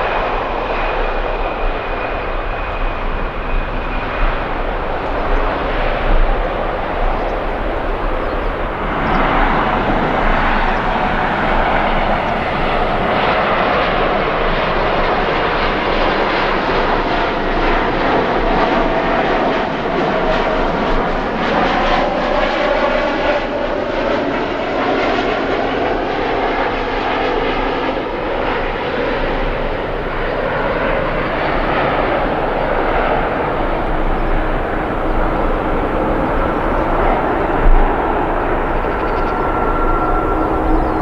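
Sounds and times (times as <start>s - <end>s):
jet airliner engines rushing: 0.0s - 41.0s.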